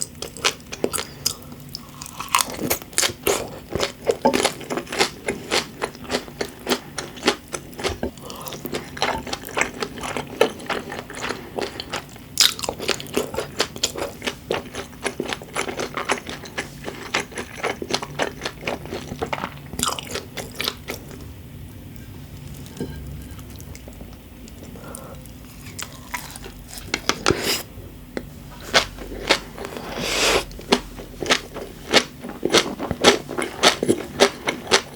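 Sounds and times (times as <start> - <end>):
chewing crunchy food: 0.0 - 21.3, 22.0 - 27.6, 28.2 - 34.9.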